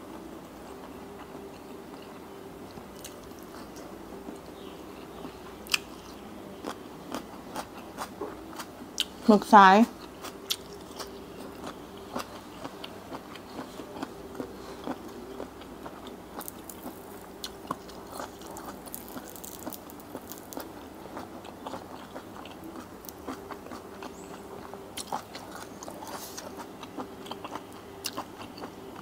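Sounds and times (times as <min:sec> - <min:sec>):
chewing with wet mouth clicks: 0:03.0 - 0:09.1, 0:10.0 - 0:29.0.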